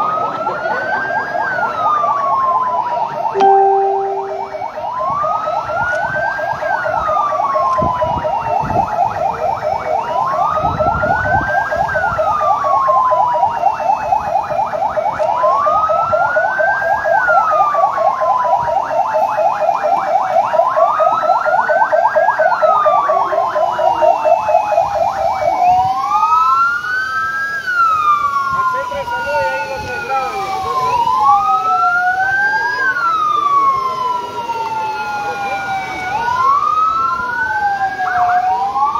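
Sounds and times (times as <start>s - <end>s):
emergency vehicle siren wailing: 0.0s - 38.9s.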